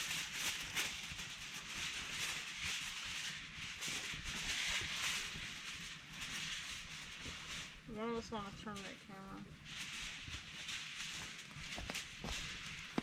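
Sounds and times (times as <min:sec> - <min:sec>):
aluminum foil crinkling: 0:00.0 - 0:13.0.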